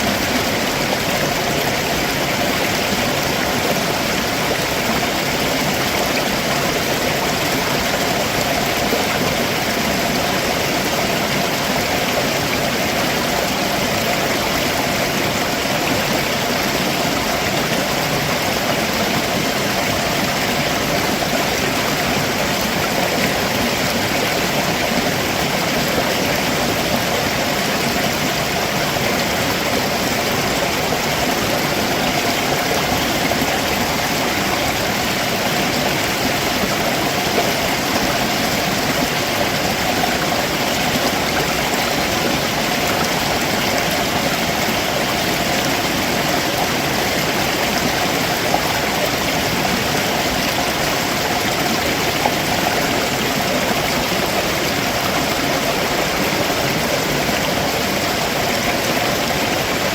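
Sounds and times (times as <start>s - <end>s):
stream splashing over rocks: 0.0s - 59.9s.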